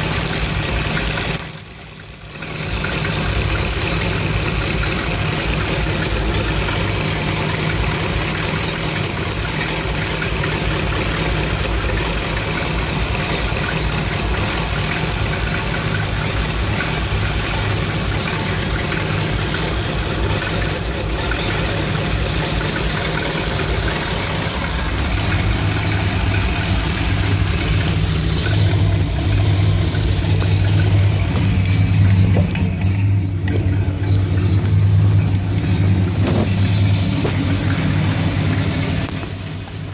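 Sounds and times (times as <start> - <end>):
van engine idling rough: 0.0 - 39.9.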